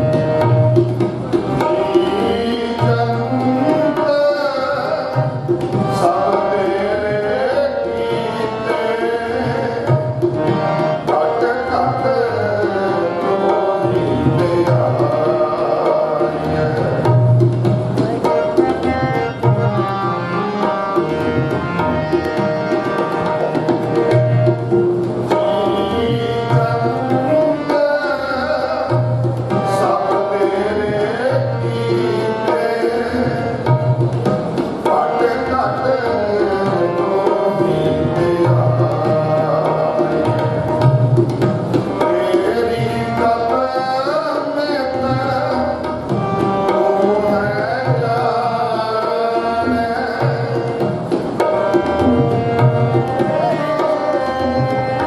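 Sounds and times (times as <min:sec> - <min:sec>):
harmonium: 0:00.0 - 0:55.0
tabla drums: 0:00.0 - 0:55.0.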